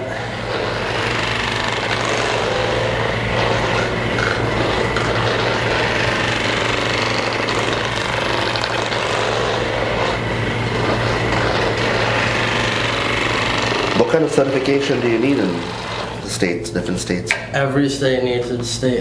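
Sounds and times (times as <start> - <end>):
massage gun buzzing: 0.0 - 16.6.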